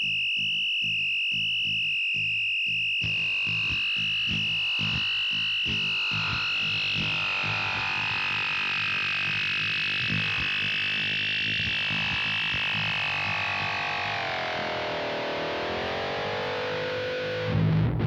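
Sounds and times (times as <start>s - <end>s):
high electronic whistle: 0.0s - 17.4s
choppy low buzz: 3.0s - 18.0s.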